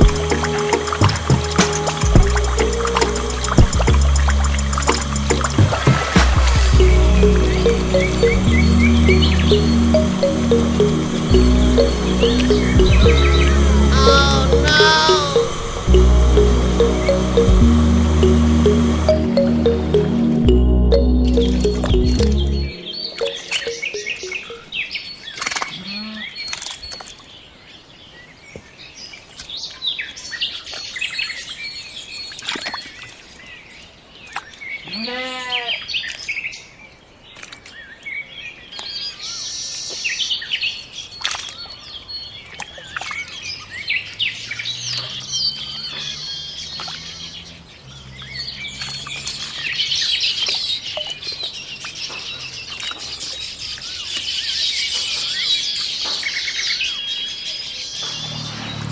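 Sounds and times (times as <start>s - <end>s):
birds chirping and trilling: 6.5s - 15.9s, 21.1s - 58.9s.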